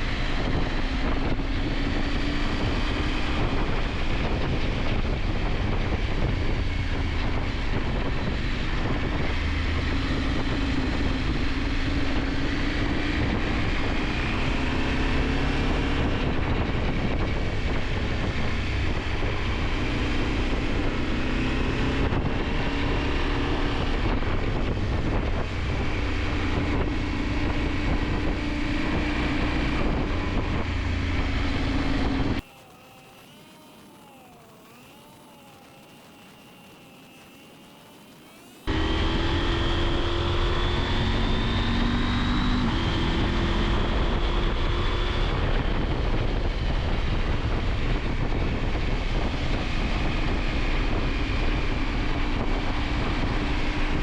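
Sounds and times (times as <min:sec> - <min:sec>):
motorcycle engine revving: 0:00.0 - 0:54.0
wind over microphone: 0:00.0 - 0:54.0.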